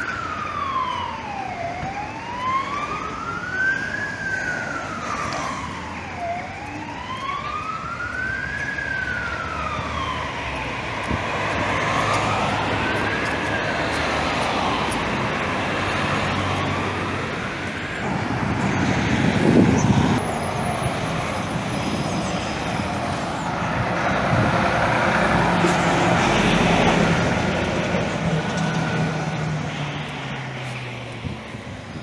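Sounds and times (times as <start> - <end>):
fire engine siren wailing: 0.0 - 32.0
street traffic: 0.0 - 32.0.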